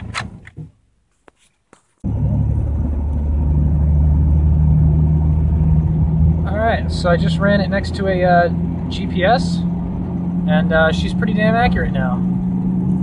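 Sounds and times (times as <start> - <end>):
car engine drone: 0.0 - 0.9, 1.9 - 13.0
road noise: 0.0 - 13.0.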